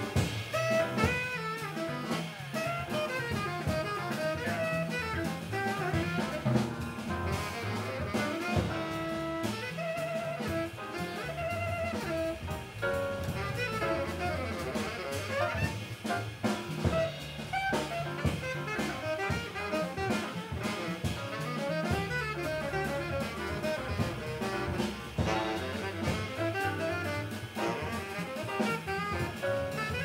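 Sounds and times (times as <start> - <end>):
drum kit: 0.0 - 30.0
piano: 0.0 - 30.0
tenor saxophone melody: 0.0 - 30.0
walking double bass: 0.0 - 30.0.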